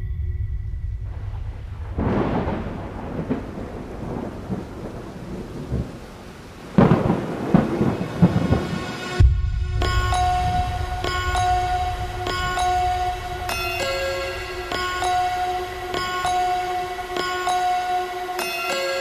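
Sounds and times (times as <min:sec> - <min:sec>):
thunder rumbling: 0:00.0 - 0:17.6
sharp thunderclap: 0:00.1 - 0:16.2
rain: 0:01.0 - 0:19.0.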